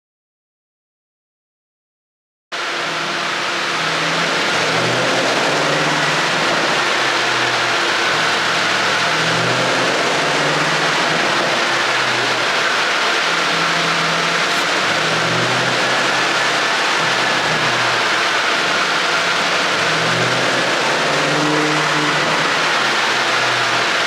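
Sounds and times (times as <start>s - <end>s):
car engine running: 2.6s - 24.0s
constant rushing noise: 2.6s - 24.0s.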